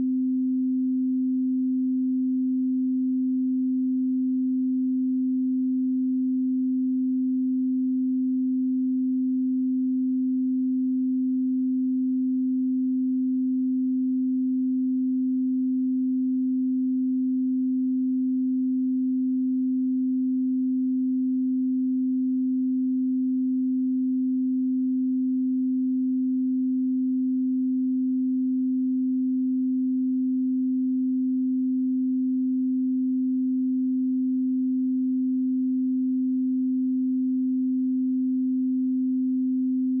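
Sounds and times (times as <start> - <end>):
sine-wave tone: 0.0 - 40.0.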